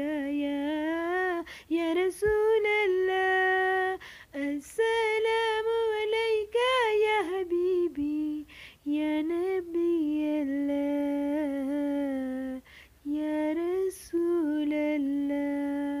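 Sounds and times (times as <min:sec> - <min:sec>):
woman singing unaccompanied: 0:00.0 - 0:16.0.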